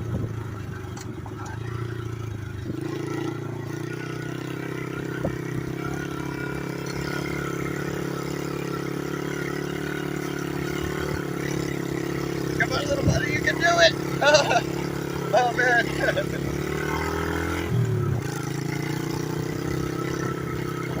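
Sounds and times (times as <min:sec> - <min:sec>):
small motorbike engine running: 0:00.0 - 0:21.0.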